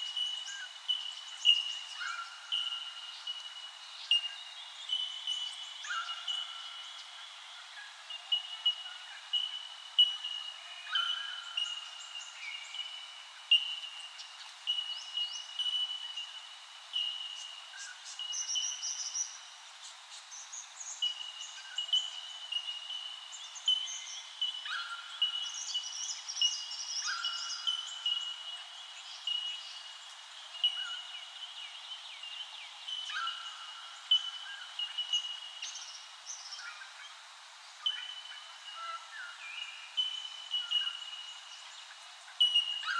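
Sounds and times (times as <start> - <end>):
birds chirping and trilling: 0.0 - 19.4, 20.1 - 42.9.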